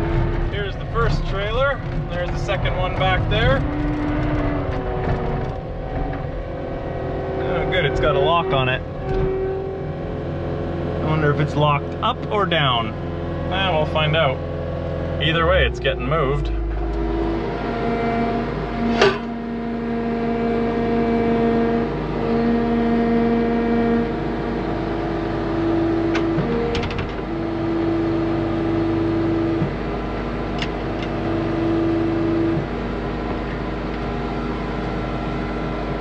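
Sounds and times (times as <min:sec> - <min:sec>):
skid steer engine running: 0:00.0 - 0:36.0
whining tone: 0:00.0 - 0:36.0.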